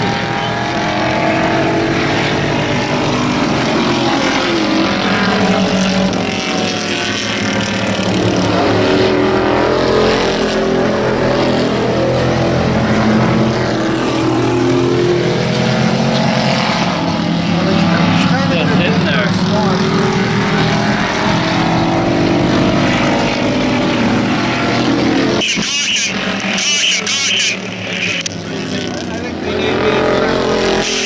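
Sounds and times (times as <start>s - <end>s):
race truck engines: 0.0s - 31.0s.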